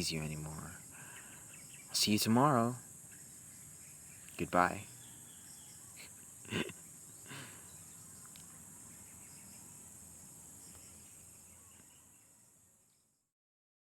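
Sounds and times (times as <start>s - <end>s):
insects chirring: 0.0s - 13.2s.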